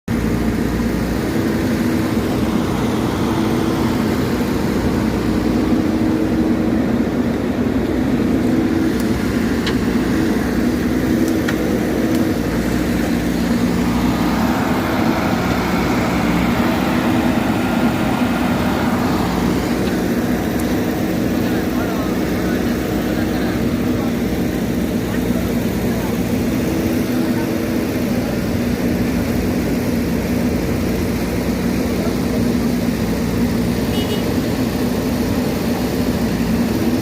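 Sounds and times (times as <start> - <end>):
backhoe diesel engine running: 0.1 - 37.0.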